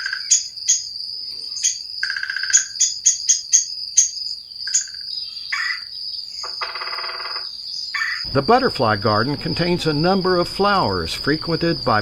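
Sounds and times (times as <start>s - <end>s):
birds calling: 0.0s - 12.0s
insects droning: 0.0s - 12.0s.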